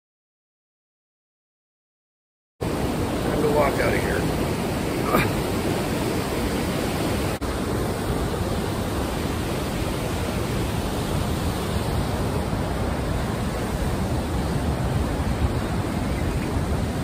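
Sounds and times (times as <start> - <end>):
river rapids rushing over rock: 2.6 - 17.0.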